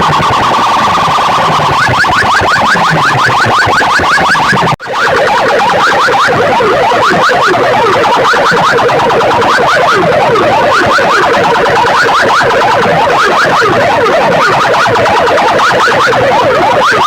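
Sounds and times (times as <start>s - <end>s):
electronic siren-like wails: 0.0s - 17.0s.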